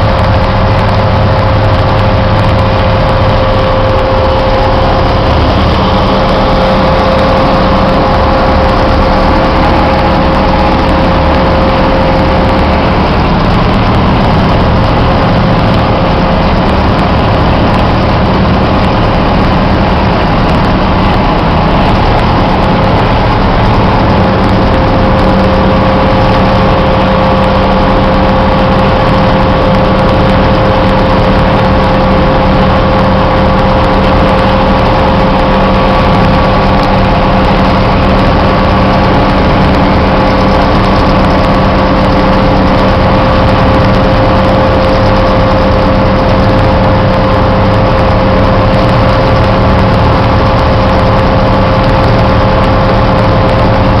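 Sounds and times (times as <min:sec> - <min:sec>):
diesel engine drone: 0:00.0 - 0:54.0
steady whine: 0:00.0 - 0:54.0.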